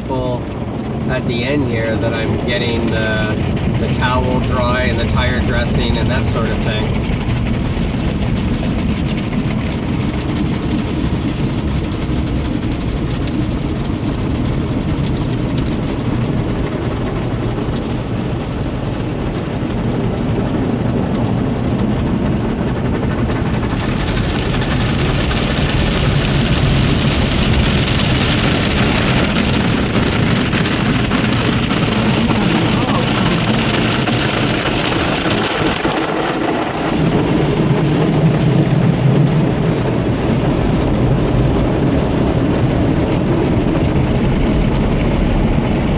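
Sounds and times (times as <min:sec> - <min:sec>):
car wash machinery rumble: 0:00.0 - 0:45.9.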